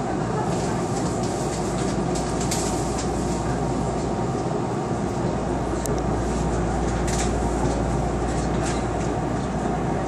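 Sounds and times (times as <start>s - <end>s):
train cab hum and rumble: 0.0s - 10.0s.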